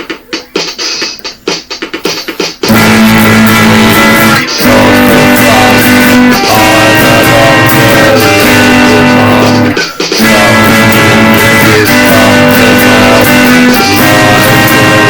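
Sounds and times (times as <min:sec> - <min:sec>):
drum hits: 0:00.0 - 0:15.0
loud guitar chords: 0:02.6 - 0:15.0
steady bass: 0:02.7 - 0:15.0.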